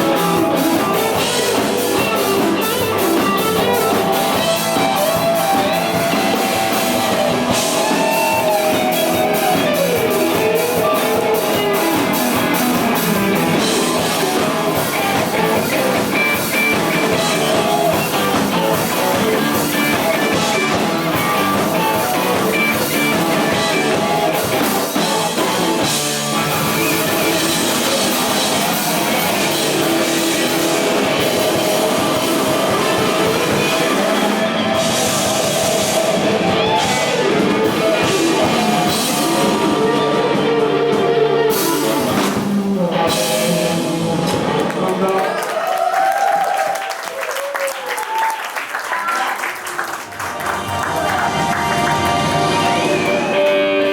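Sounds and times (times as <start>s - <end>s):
drum kit: 0.0s - 45.4s, 50.0s - 53.9s
rock band playing live: 0.0s - 47.5s, 49.4s - 53.9s
loud electric guitar: 0.0s - 47.6s, 49.3s - 53.9s.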